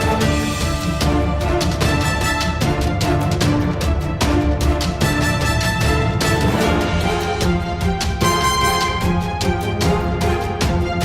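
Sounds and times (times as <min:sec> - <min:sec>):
percussion beat: 0:00.0 - 0:11.0.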